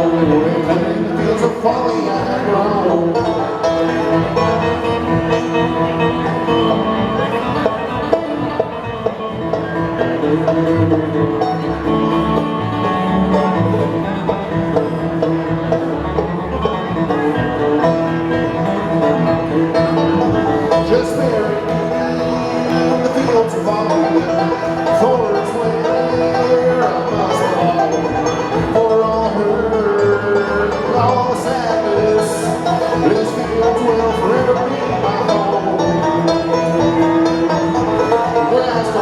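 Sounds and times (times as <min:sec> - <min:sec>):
banjo picking: 0:00.0 - 0:39.0
guitar picking: 0:00.0 - 0:39.0
upright bass line: 0:00.0 - 0:39.0.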